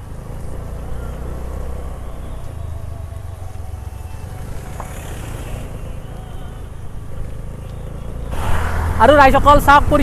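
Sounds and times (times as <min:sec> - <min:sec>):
motor scooter engine: 0:00.0 - 0:10.0.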